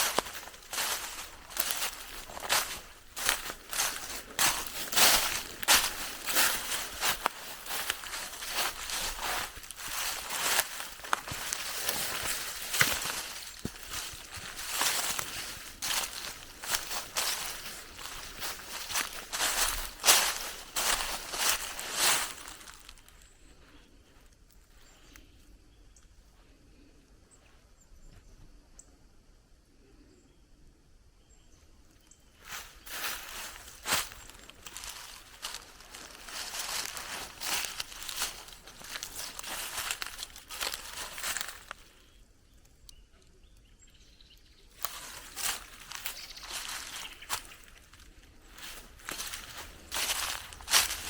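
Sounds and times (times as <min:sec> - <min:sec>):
footsteps on forest trail: 0:00.0 - 0:25.2, 0:32.4 - 0:42.2, 0:44.5 - 0:51.0.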